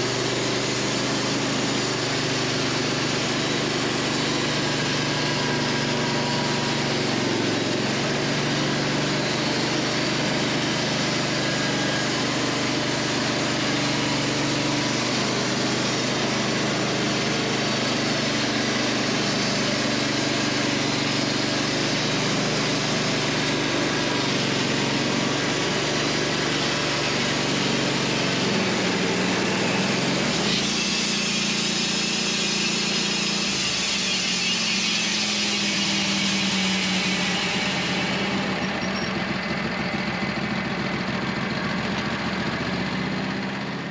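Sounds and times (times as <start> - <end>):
band sawmill sawing log: 0.0 - 43.9.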